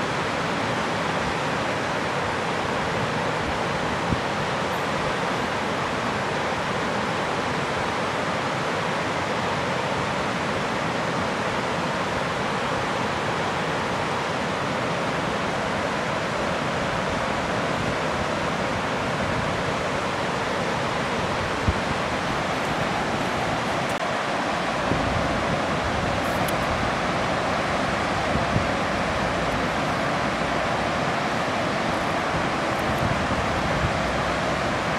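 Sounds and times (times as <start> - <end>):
river rapids rushing over boulders: 0.0 - 34.9.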